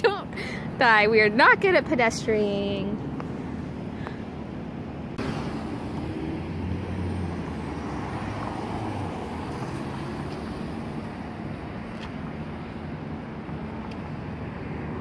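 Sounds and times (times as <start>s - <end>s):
cars driving past: 2.9s - 15.0s.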